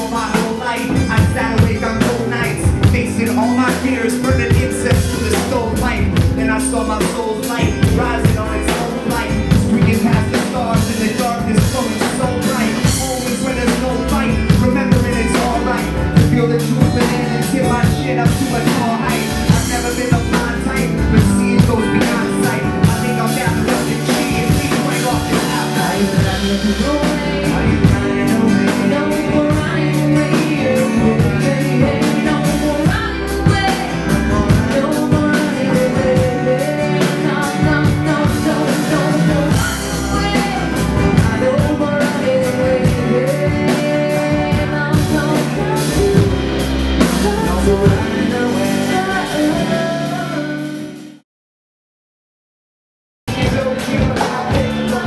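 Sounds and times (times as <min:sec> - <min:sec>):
acoustic guitar: 0:00.0 - 0:51.2, 0:53.3 - 0:55.0
drum kit: 0:00.0 - 0:51.2, 0:53.3 - 0:55.0
person singing: 0:00.0 - 0:51.2, 0:53.3 - 0:55.0
upright bass: 0:00.0 - 0:51.2, 0:53.3 - 0:55.0.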